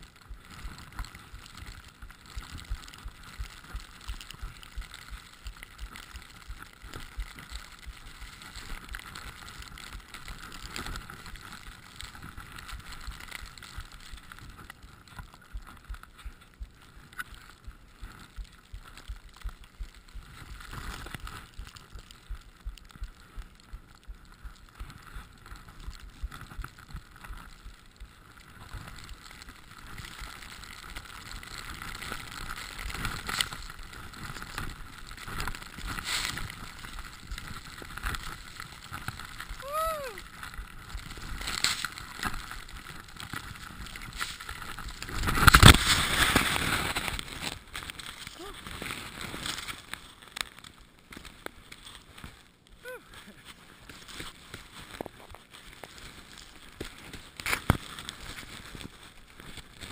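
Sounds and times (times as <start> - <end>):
skis rushing through powder snow: 0.0 - 22.6, 23.2 - 59.9.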